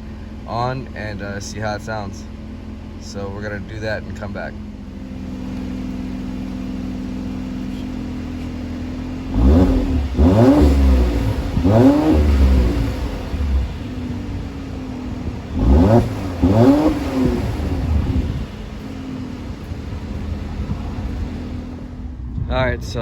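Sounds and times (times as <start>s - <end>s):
car engine revving: 0.0s - 22.4s
car engine idling: 0.0s - 23.0s.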